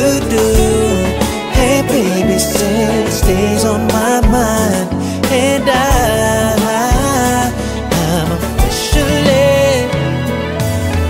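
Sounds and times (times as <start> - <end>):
bass line: 0.0 - 11.0
man singing: 0.0 - 11.0
soft beat: 0.0 - 11.0.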